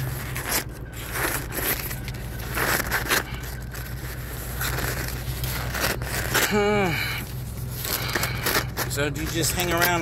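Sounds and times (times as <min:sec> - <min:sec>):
rustling and crinkling handling: 0:00.0 - 0:10.0.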